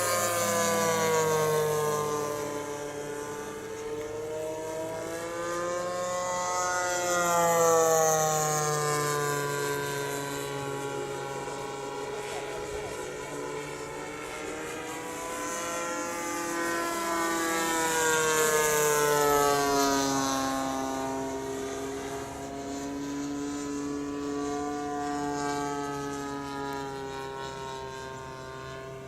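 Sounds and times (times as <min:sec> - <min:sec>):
model plane engine flying past: 0:00.0 - 0:29.0.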